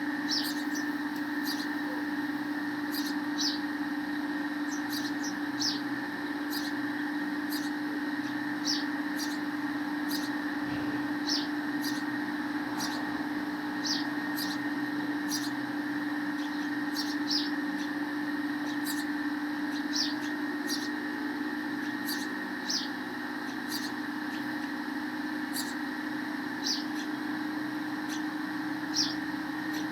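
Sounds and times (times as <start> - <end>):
steady low hum: 0.0 - 29.9
sparrow chirping: 0.2 - 3.8, 4.6 - 21.0, 21.8 - 24.6, 25.5 - 25.8, 26.6 - 27.2, 28.9 - 29.9.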